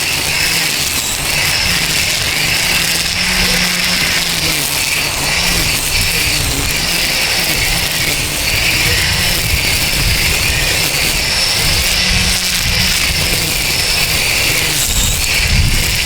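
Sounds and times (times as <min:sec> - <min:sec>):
string trimmer whine: 0:00.0 - 0:16.0.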